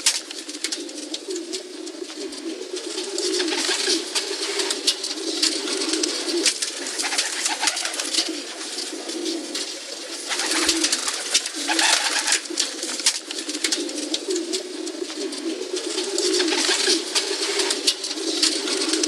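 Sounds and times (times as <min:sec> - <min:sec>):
pigeons cooing: 0:00.0 - 0:19.0
sharp clicks and rustles: 0:00.0 - 0:19.0.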